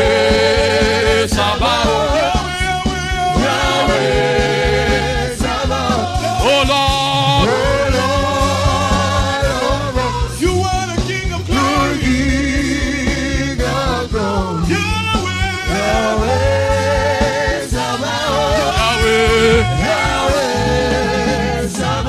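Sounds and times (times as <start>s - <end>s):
band with bass and drums: 0.0s - 22.0s
voices singing with vibrato: 0.0s - 22.0s.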